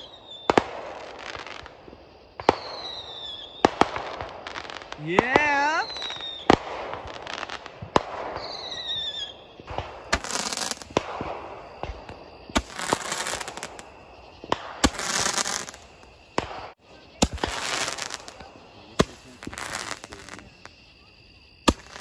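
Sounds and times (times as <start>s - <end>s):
fireworks bangs: 0.0s - 22.0s
fireworks crackling: 0.0s - 22.0s.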